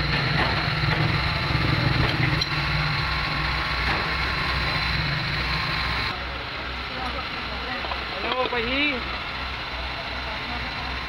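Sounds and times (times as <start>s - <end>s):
engine low throbbing: 0.0s - 11.0s.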